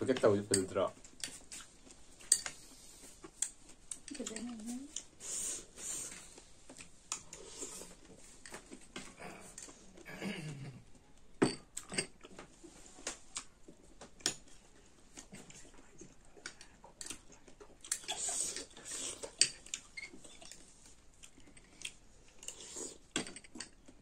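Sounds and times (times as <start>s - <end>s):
eating and chewing: 0.2s - 24.0s.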